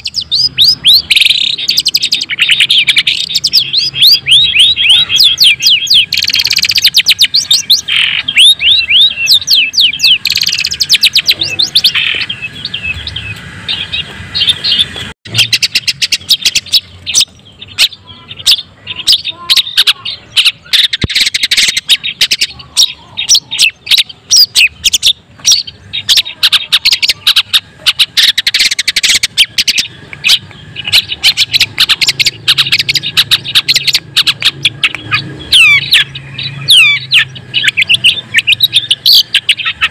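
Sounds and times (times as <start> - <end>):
bird singing sharp chirps: 0.0 - 39.9.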